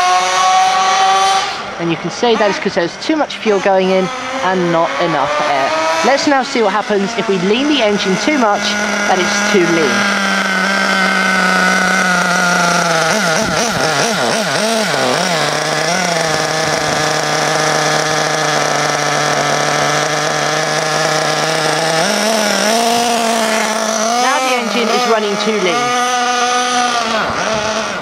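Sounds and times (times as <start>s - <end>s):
nitro engine running: 0.0s - 28.0s.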